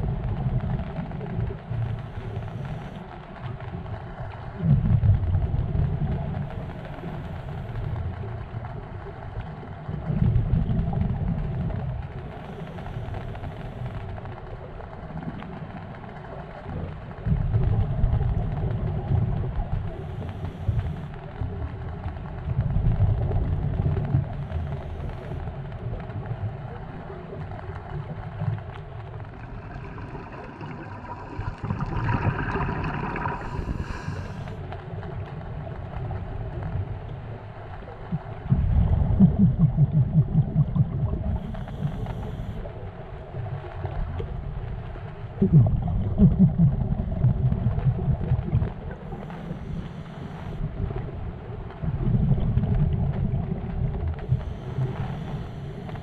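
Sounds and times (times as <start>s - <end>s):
underwater bubbles rumbling: 0.0s - 56.0s.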